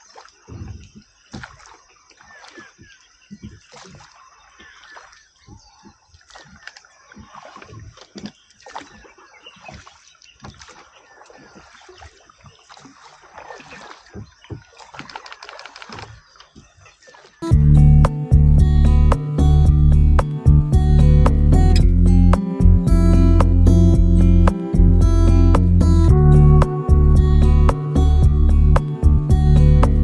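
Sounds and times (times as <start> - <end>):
water splashing around a boat: 0.0 - 30.0.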